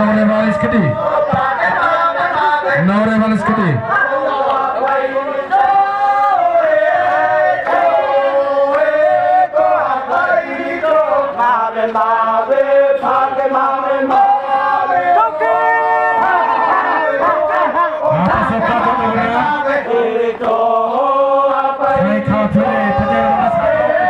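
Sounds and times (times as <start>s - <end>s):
group of voices chanting: 0.0s - 24.0s.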